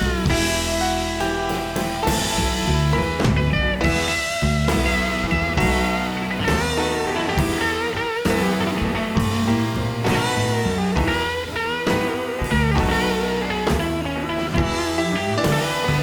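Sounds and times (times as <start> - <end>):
guitar rock music with drums: 0.0 - 16.0.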